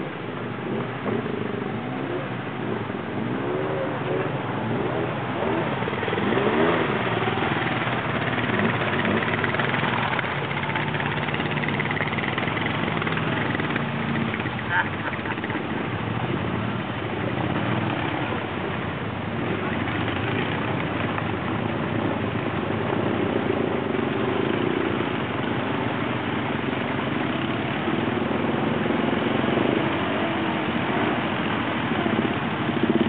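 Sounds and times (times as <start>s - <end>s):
atv engines idling: 0.0s - 33.0s
constant hiss: 0.0s - 33.0s.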